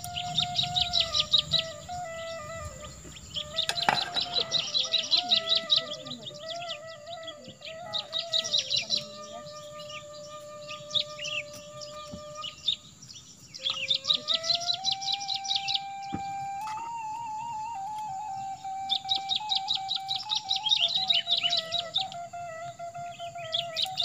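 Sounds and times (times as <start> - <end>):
birds chirping in trills: 0.0 - 24.0.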